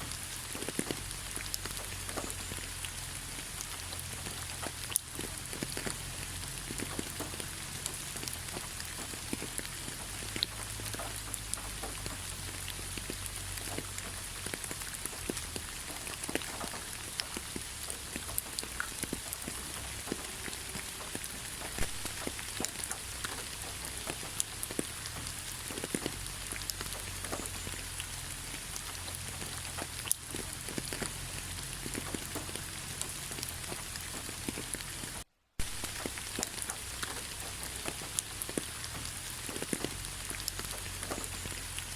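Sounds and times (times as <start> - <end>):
rain falling: 0.0 - 41.9
raindrops ticking: 0.0 - 41.9.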